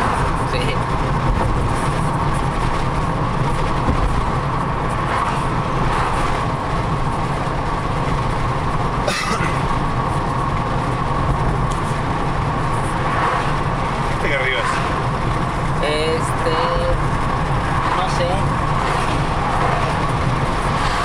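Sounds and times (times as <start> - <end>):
car road noise from inside: 0.0 - 21.0.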